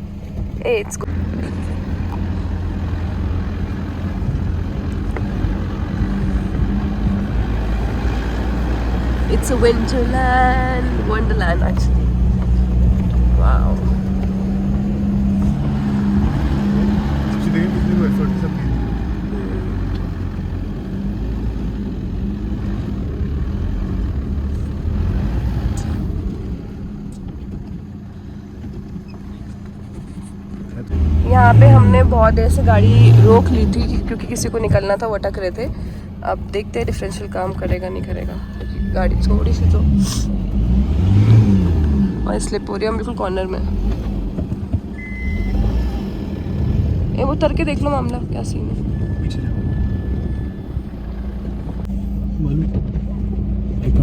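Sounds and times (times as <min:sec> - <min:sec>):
car engine driving: 0:00.0 - 0:54.0
road noise: 0:00.0 - 0:54.0.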